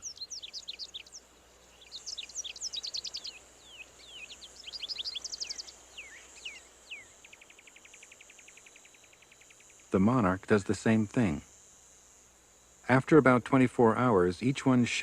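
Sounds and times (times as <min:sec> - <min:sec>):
bird chirps and trills: 0:00.0 - 0:12.8.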